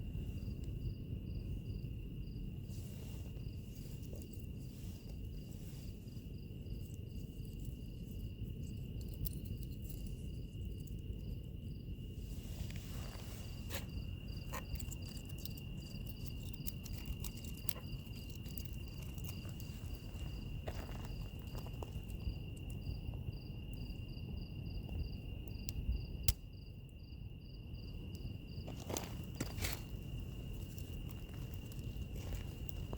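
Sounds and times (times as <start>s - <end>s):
crickets trilling: 0.0s - 32.9s
wood fire crackling: 2.5s - 24.0s, 27.9s - 32.9s.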